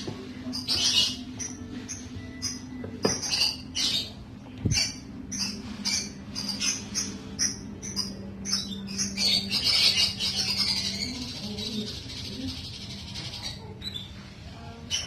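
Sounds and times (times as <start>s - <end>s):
bird chicks cheeping: 0.4s - 15.0s.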